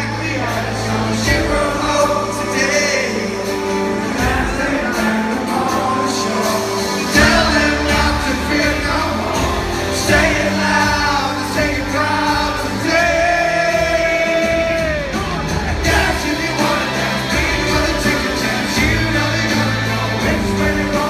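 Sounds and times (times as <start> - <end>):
acoustic guitar: 0.0 - 21.0
bass and drums: 0.0 - 21.0
man singing: 0.0 - 21.0.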